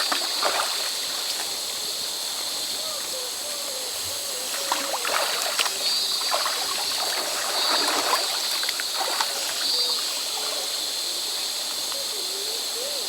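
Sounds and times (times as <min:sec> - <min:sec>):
river water trickling and splashing: 0:00.0 - 0:03.1, 0:04.0 - 0:11.9.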